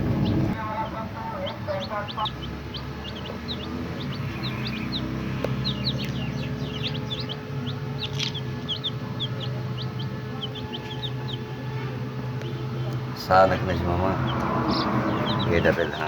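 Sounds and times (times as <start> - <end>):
chicks peeping: 0.0 - 16.0
low steady hum: 0.0 - 16.0.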